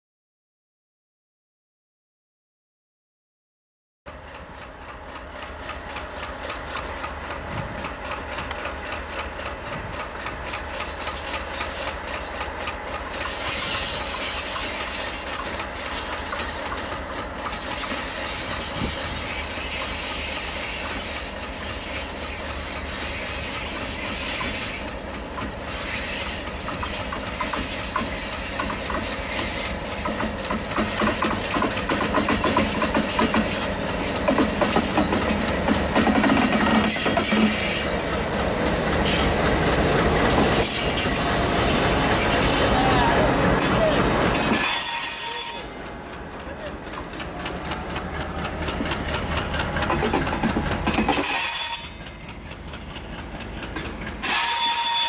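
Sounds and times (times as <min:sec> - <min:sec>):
diesel locomotive engine running: 0:04.1 - 0:55.0.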